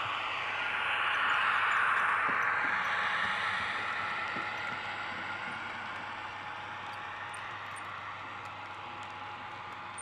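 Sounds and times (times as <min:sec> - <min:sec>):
model train wheels rolling on track: 0:00.0 - 0:10.0.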